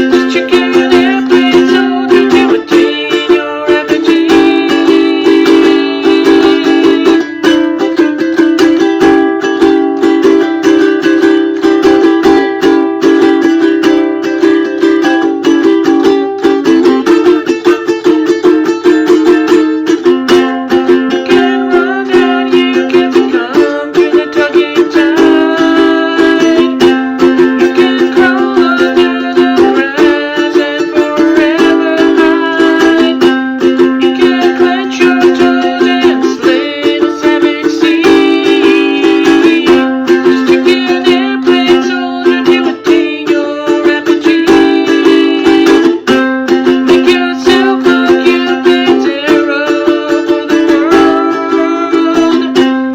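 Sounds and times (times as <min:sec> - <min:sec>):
string instrument strummed: 0:00.0 - 0:52.9.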